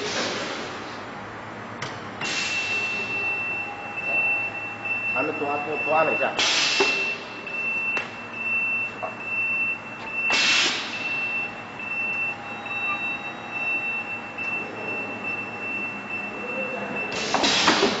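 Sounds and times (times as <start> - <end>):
conveyor line running: 0.0 - 18.0.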